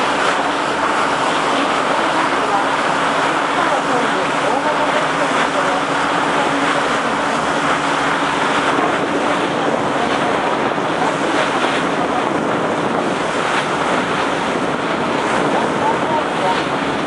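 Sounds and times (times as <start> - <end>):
water churning past hull: 0.0 - 17.0
wind buffeting microphone: 0.0 - 17.0.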